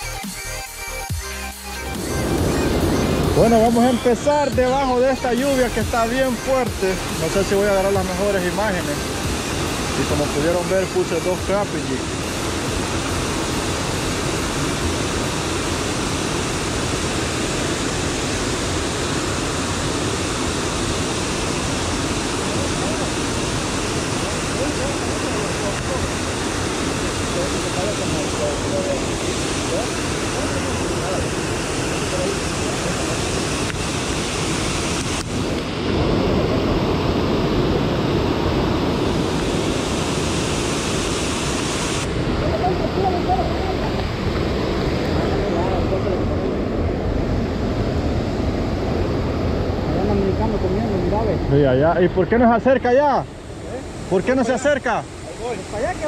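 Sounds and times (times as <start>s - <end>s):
heavy rain on water: 2.0s - 51.8s, 52.9s - 56.0s.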